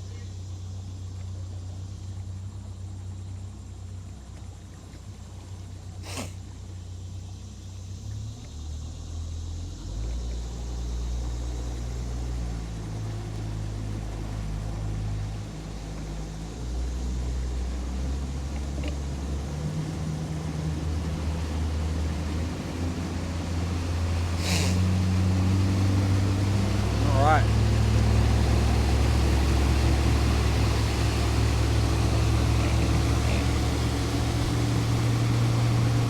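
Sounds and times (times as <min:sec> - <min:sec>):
outboard motor drone: 0:00.0 - 0:36.0.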